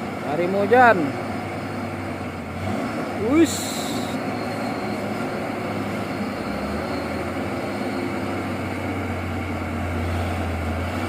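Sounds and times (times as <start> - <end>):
truck diesel engine running: 0.0 - 11.0
tyre and road noise: 0.0 - 11.0.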